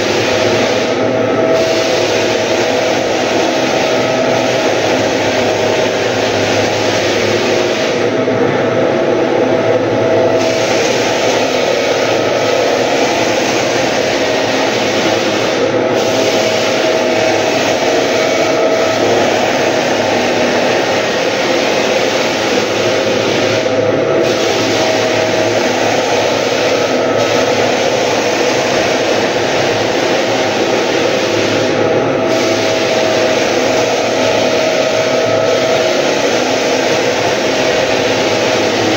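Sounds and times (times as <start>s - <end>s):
floor sander running: 0.0s - 38.9s.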